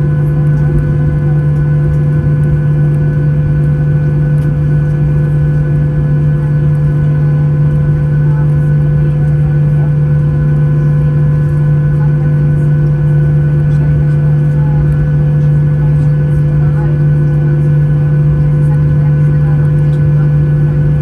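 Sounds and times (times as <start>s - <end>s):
jet engine drone in cabin: 0.0s - 21.0s.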